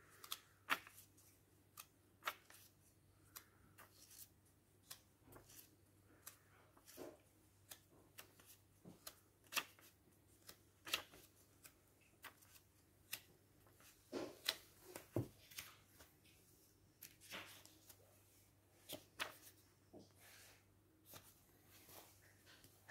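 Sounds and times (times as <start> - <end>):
book pages rustling: 0.1 - 22.9.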